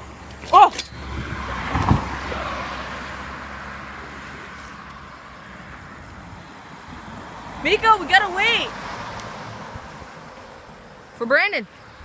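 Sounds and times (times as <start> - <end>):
passing vehicle road noise: 0.0 - 12.0.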